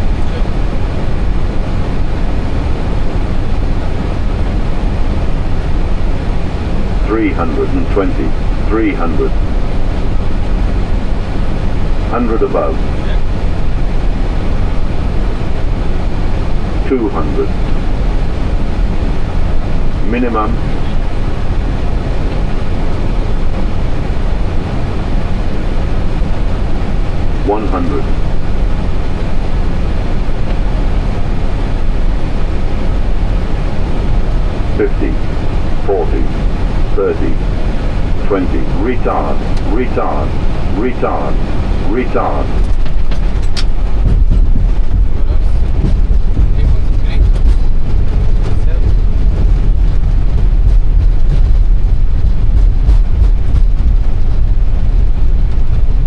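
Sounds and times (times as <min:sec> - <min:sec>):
aircraft cockpit noise: 0:00.0 - 0:56.0
airflow rush: 0:00.0 - 0:56.0.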